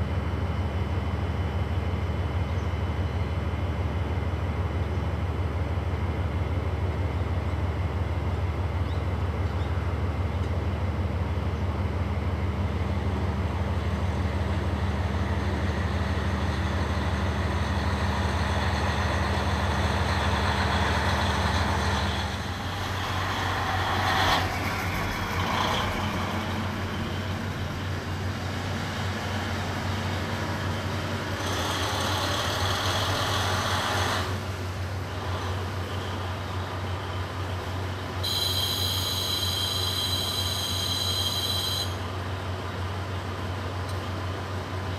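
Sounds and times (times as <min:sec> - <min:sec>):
diesel train engine drone: 0:00.0 - 0:44.9
rushing rail noise: 0:00.0 - 0:44.9.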